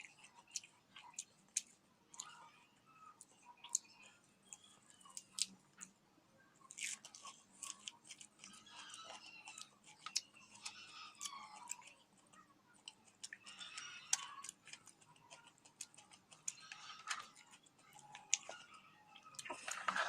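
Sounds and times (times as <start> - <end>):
chewing and crunching: 0.0 - 6.0, 6.6 - 20.0.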